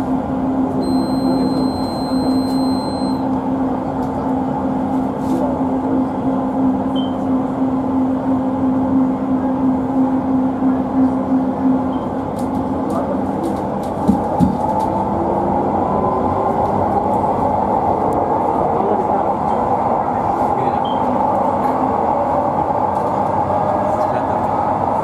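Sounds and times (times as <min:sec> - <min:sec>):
train wheels rumbling on rails: 0:03.4 - 0:25.0.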